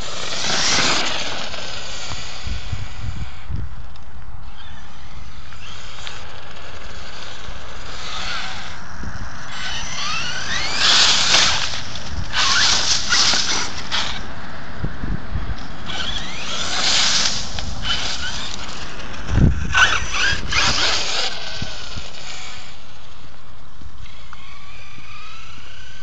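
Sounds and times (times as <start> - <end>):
tyres spraying gravel: 0.0 - 3.2, 5.0 - 14.3, 15.6 - 25.2
electric motor whining: 0.0 - 14.4, 15.6 - 26.0.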